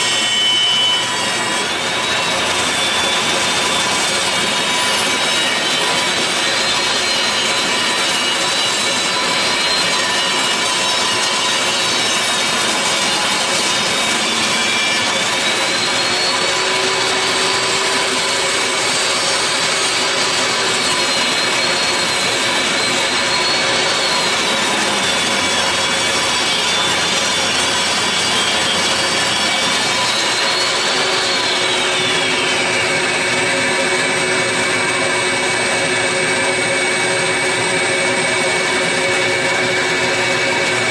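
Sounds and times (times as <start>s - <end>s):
fan and dust collector noise: 0.0s - 40.9s
table saw cutting wood: 0.0s - 40.9s.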